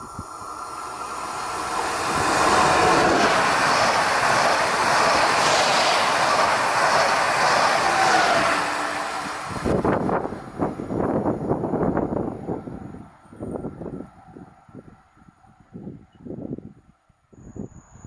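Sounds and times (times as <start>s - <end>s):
train passing at speed: 0.0s - 16.6s
wheels rushing on rail: 0.0s - 16.6s.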